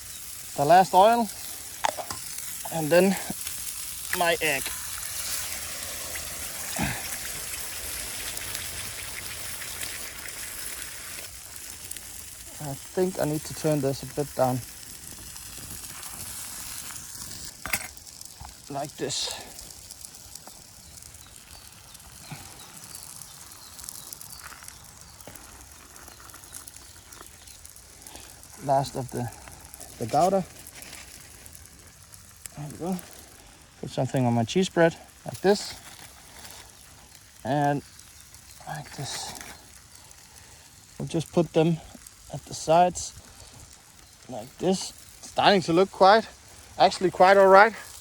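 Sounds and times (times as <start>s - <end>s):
egg sizzling in oil: 0.0s - 48.0s
wood fire crackling and popping: 0.0s - 48.0s.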